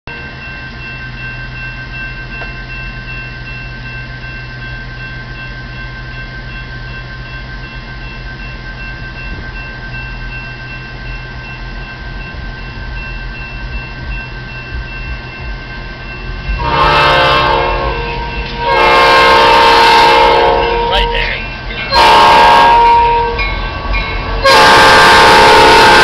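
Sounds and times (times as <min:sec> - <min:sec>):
railroad crossing bell ringing: 0:00.1 - 0:26.0.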